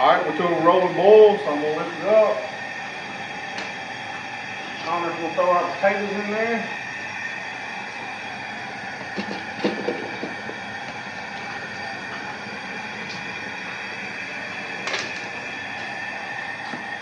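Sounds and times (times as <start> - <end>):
gas burner rushing: 0.0 - 17.0
water boiling in a pot: 0.0 - 17.0.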